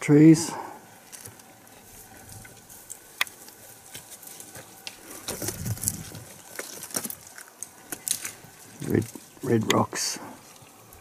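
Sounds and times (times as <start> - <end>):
boots crunching on loose stones: 1.0 - 11.0.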